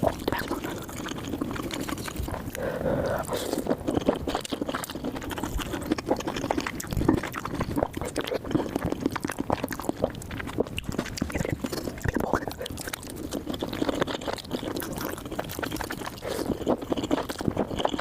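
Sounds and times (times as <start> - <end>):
small mouth clicks: 0.0 - 18.0
wet slurping and smacking: 0.0 - 18.0.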